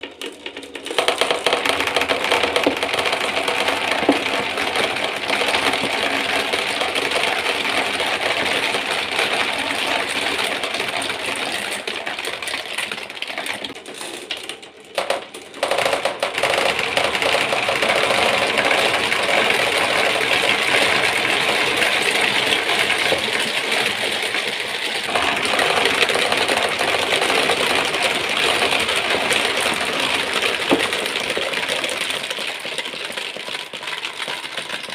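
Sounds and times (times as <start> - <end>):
marbles rattling down a track: 0.0 - 34.9.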